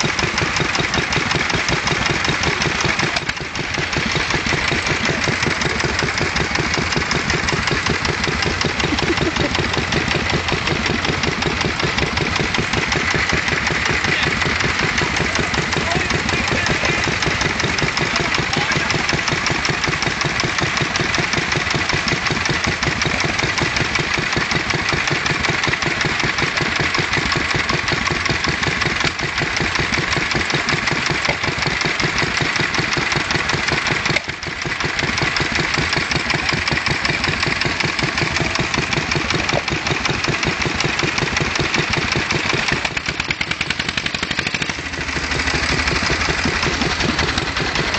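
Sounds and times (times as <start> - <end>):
stationary engines running: 0.0 - 47.9.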